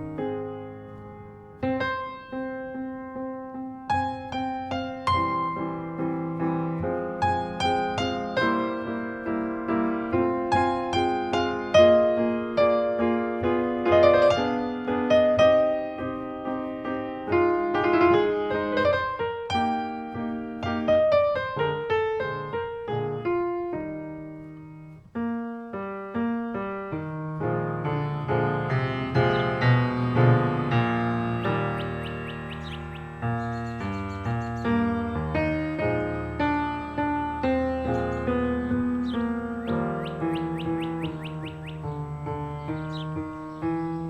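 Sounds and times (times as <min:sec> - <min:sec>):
slow piano melody: 0:00.0 - 0:44.0.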